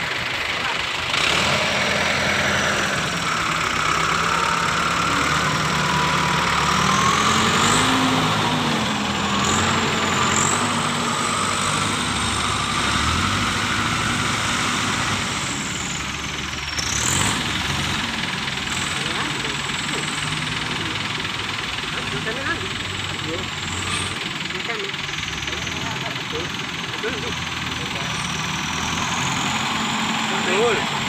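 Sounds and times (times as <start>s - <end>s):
heavy vehicle engine under load: 0.0s - 31.0s.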